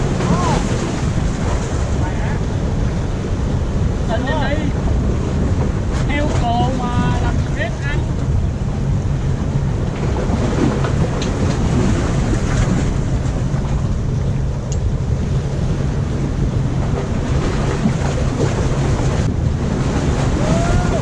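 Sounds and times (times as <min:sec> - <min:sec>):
surf washing against rocks: 0:00.0 - 0:21.0.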